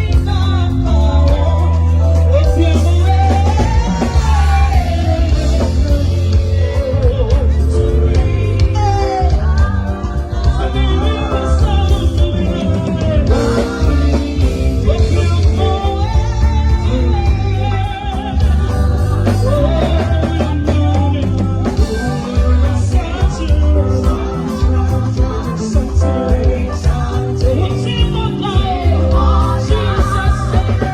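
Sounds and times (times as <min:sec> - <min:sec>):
band with heavy bass: 0:00.0 - 0:30.9
gospel singing voice: 0:00.0 - 0:30.9.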